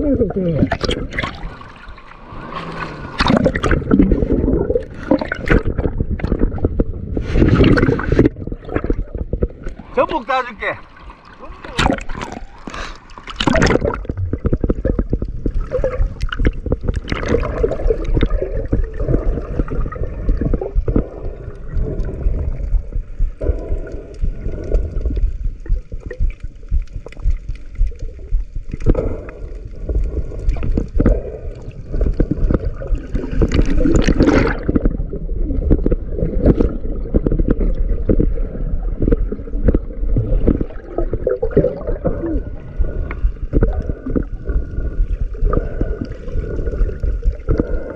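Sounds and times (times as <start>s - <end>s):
seawater gurgling and sloshing: 0.0s - 47.9s.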